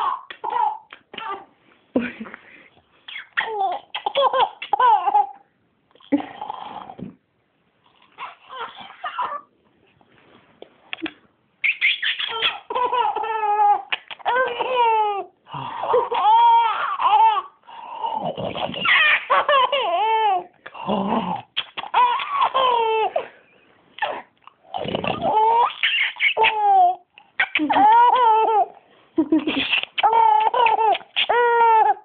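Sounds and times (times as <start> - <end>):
baby giggling: 0.0 - 2.4, 3.1 - 5.4, 6.0 - 7.0, 8.1 - 9.5, 11.0 - 20.5, 21.2 - 23.3, 24.0 - 32.0.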